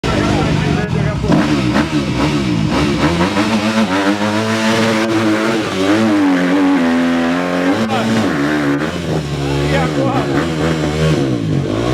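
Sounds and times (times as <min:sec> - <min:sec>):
vehicle engine revving: 0:00.0 - 0:11.9.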